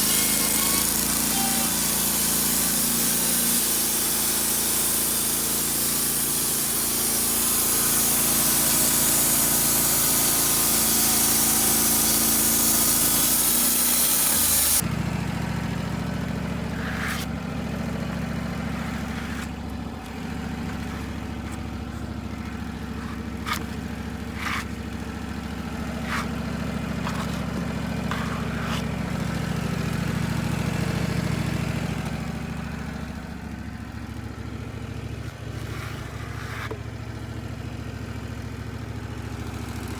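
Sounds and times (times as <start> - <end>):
loud engine running: 0.0 - 39.9
lower-pitched engine running: 0.0 - 39.9.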